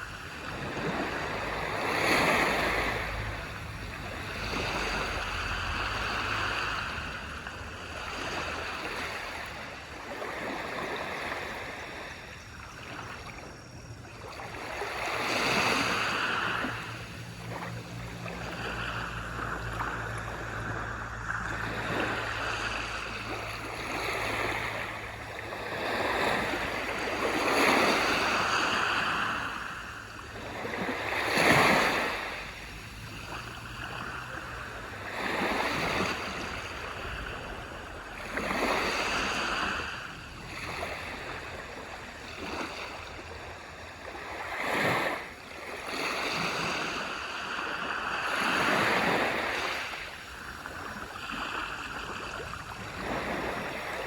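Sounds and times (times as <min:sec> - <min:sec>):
low rumble of surf: 0:00.0 - 0:54.0
waves breaking on beach: 0:00.0 - 0:54.0.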